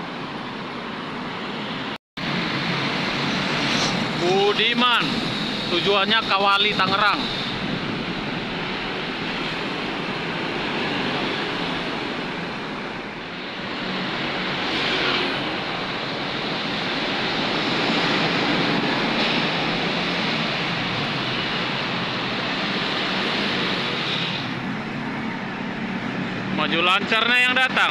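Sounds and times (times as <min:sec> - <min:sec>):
wind rush: 0:00.0 - 0:27.1
busy road traffic: 0:00.0 - 0:27.9.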